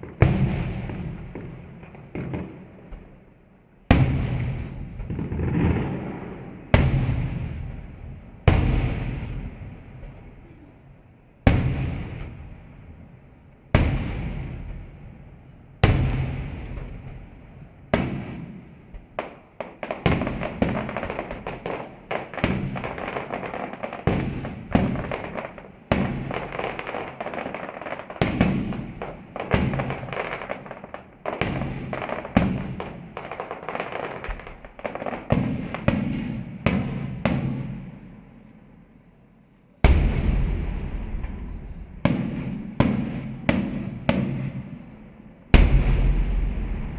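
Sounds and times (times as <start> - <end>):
rapid fireworks volleys: 0.0 - 38.3, 39.8 - 46.9.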